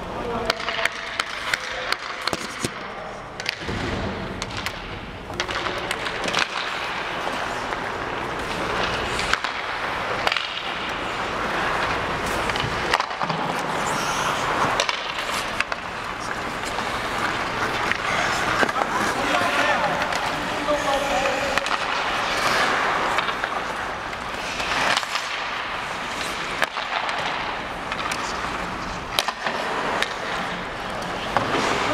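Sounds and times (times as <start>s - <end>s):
hockey sticks and puck clacking: 0.2s - 31.9s
skate blades scraping ice: 5.4s - 31.9s.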